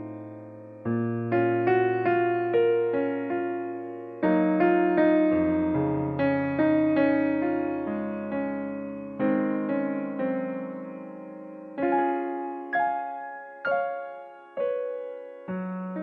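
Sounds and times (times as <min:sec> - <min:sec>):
electric piano melody: 0:00.0 - 0:16.0.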